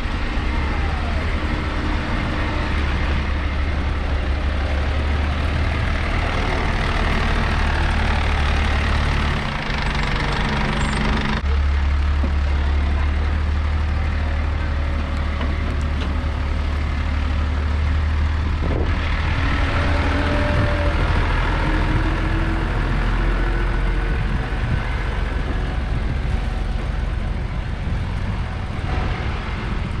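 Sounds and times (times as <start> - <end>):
garbage truck engine rumble: 0.0 - 30.0.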